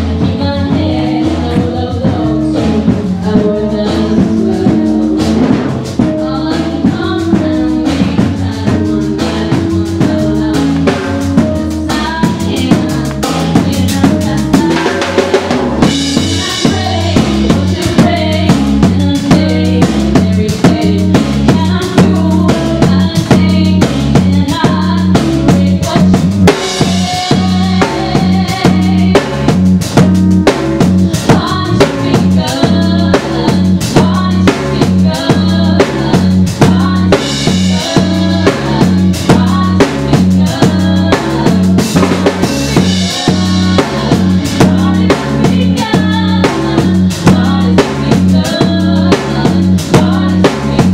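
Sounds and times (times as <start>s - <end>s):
drum kit beat: 0.0s - 50.9s
live band playing: 0.0s - 50.9s
repeating bass line: 0.0s - 50.9s.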